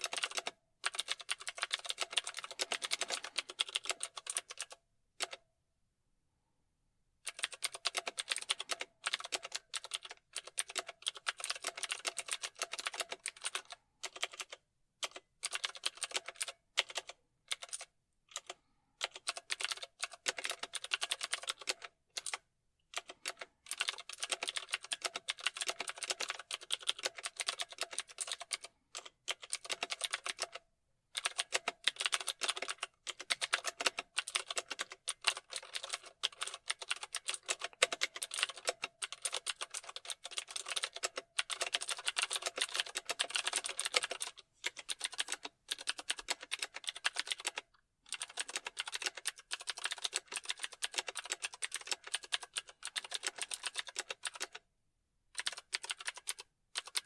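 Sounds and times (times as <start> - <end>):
computer keyboard typing: 0.0 - 5.4, 7.2 - 54.7, 55.4 - 57.0.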